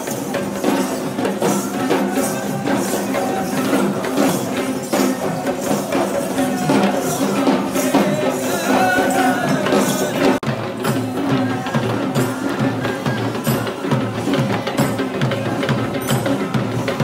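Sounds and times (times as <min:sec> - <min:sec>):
drums and percussion beating: 0:00.0 - 0:17.0.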